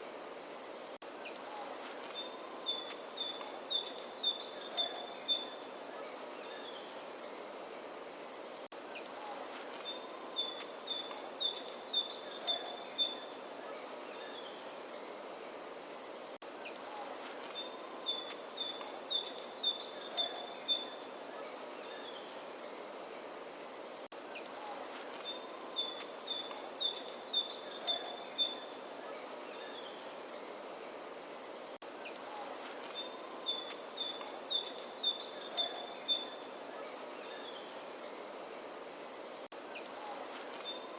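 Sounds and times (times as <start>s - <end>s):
faint steady background noise: 0.0s - 40.9s
songbird singing: 0.0s - 40.9s.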